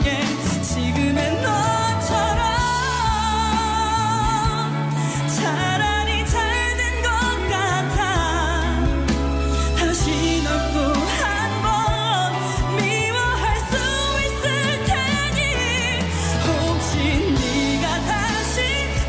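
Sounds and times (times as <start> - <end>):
band accompaniment: 0.0 - 19.0
woman singing pop ballad: 0.0 - 19.0.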